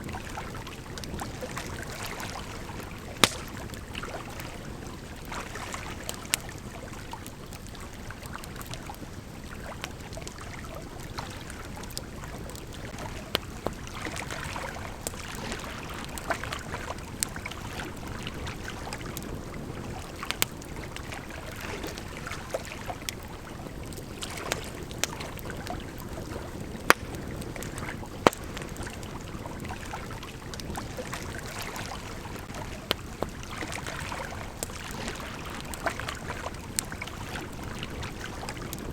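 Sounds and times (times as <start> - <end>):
flowing river: 0.0 - 38.9
campfire crackling and popping: 0.1 - 38.9.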